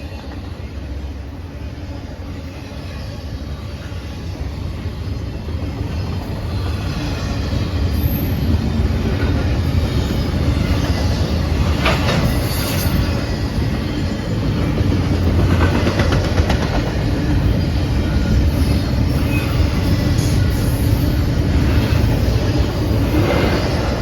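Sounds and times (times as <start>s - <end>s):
diesel locomotive engine rumble: 0.0s - 24.0s
train rail noise: 0.0s - 24.0s.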